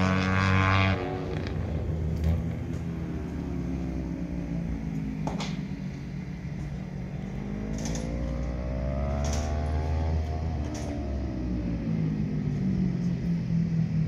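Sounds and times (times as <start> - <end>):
distant kart engine revving: 0.0 - 12.4.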